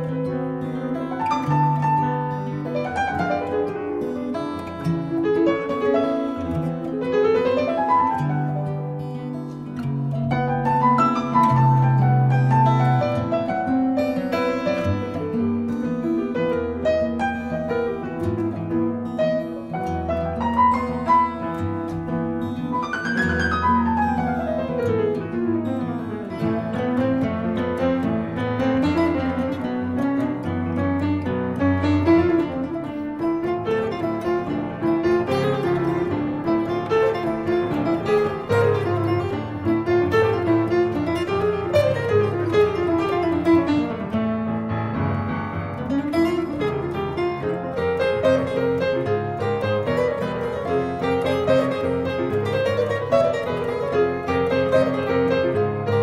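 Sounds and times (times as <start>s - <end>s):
jazz guitar: 0.0s - 56.0s
jazz piano: 0.0s - 56.0s.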